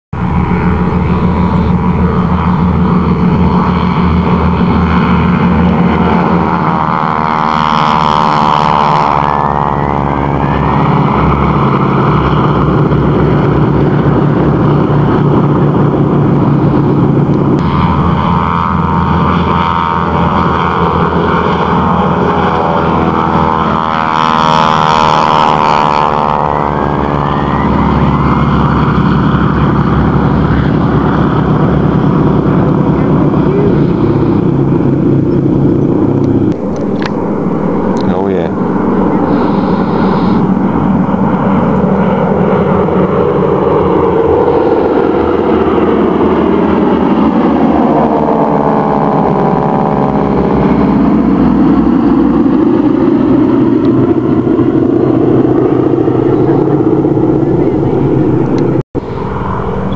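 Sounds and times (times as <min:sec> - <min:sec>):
propeller planes droning past: 0:00.1 - 0:59.9.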